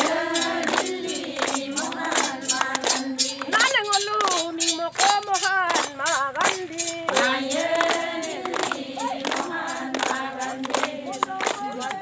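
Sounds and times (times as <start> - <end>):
hands clapping in rhythm: 0.0 - 12.0
women singing folk song: 0.0 - 12.0.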